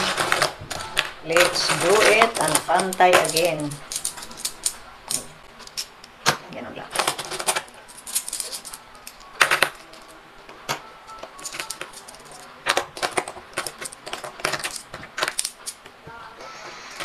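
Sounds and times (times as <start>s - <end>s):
coins clinking: 0.0s - 6.1s, 6.9s - 15.9s.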